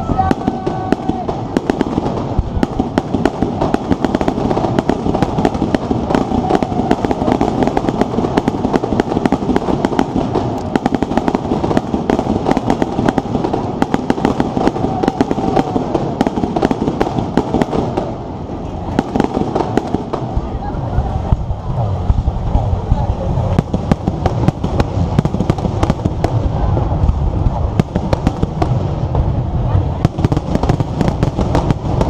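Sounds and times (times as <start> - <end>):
fireworks cracking and popping: 0.0 - 32.0
fireworks rumble: 0.0 - 32.0.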